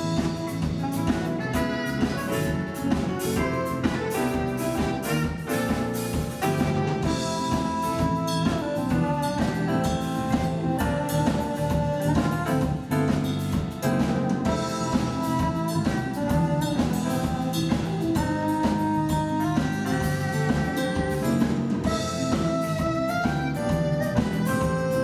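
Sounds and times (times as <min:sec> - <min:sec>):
bass: 0:00.0 - 0:25.0
drum kit: 0:00.0 - 0:25.0
electric guitar: 0:00.0 - 0:25.0
saxophone melody: 0:00.0 - 0:25.0.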